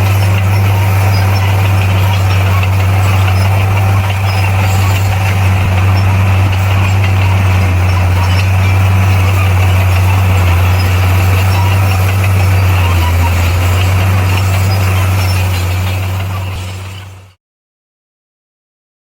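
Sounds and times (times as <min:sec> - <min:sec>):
diesel engine running: 0:00.0 - 0:17.4.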